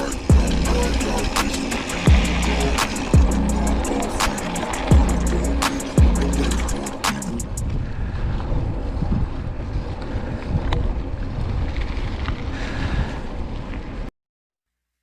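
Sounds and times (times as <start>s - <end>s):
bike tyres rumbling on dirt: 0.0s - 14.1s
wind buffeting microphone: 0.0s - 14.1s.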